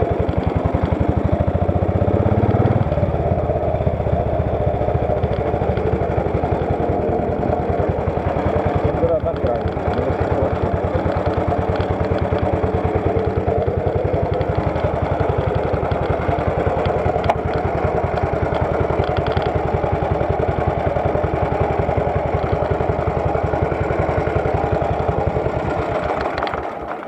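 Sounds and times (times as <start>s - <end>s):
motorcycle engine running at low revs: 0.0s - 27.0s.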